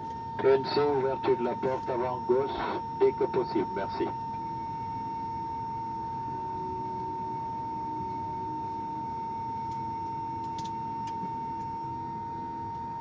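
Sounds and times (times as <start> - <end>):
high whine: 0.0 - 13.0.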